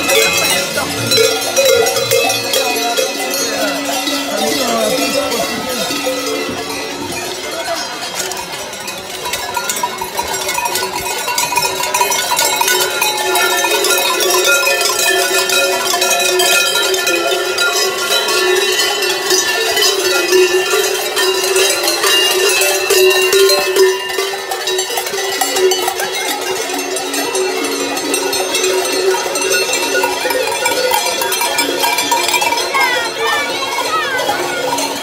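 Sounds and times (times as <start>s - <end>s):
cowbells clanging: 0.0s - 35.0s
lower-pitched bell: 0.0s - 35.0s.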